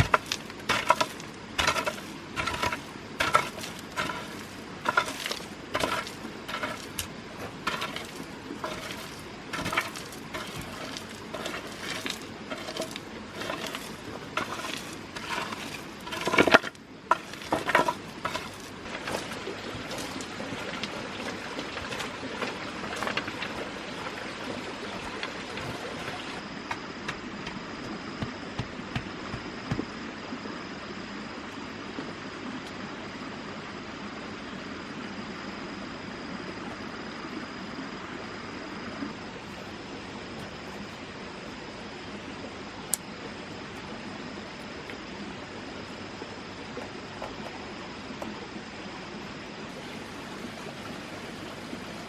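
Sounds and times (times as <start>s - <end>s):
steady noisy hiss: 0.0s - 52.0s.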